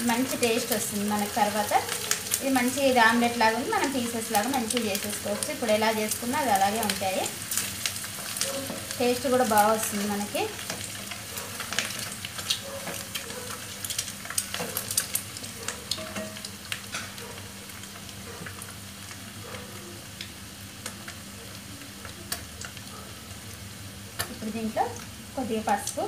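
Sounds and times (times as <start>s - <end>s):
eggs sizzling and crackling in oil: 0.0s - 26.0s.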